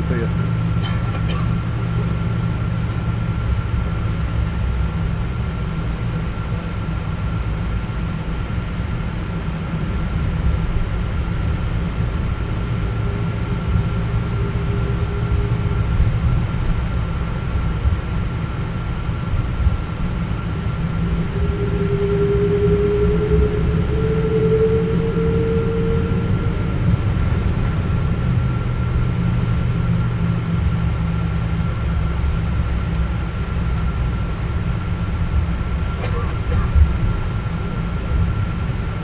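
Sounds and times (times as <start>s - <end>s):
aircraft engines low rumble: 0.0s - 39.0s
high whine: 0.0s - 39.0s.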